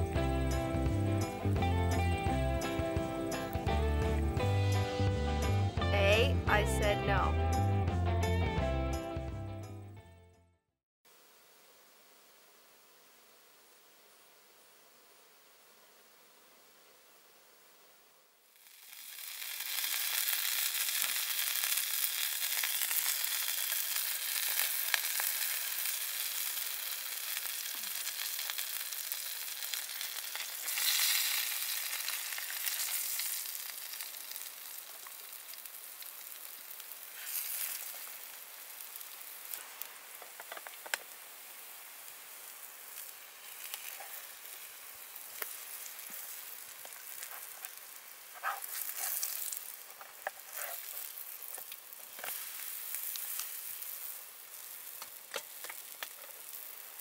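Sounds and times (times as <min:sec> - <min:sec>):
food sizzling in a pan: 0:00.0 - 0:05.2, 0:11.1 - 0:57.0.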